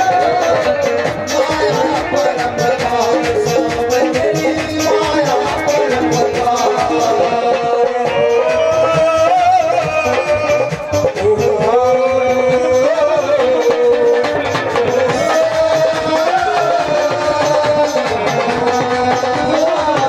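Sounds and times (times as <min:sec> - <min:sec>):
rattle and drum percussion: 0:00.0 - 0:20.0.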